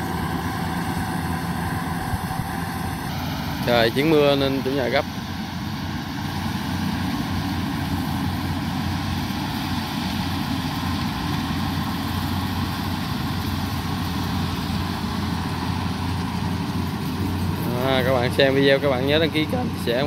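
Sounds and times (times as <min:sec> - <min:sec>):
combine harvester diesel engine: 0:00.0 - 0:20.0.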